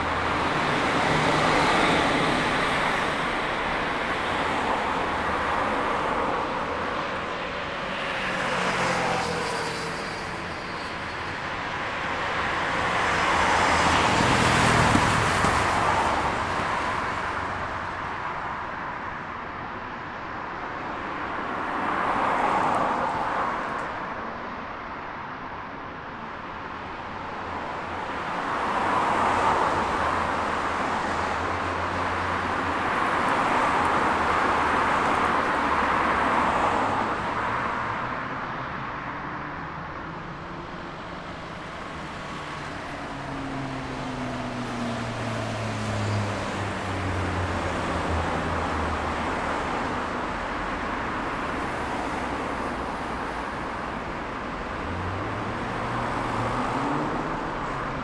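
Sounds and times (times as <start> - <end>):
background traffic: 0.0 - 58.0
cars passing: 0.0 - 58.0.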